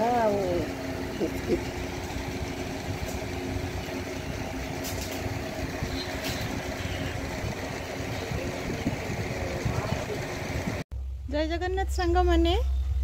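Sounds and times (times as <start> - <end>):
motor humming: 0.0 - 10.8.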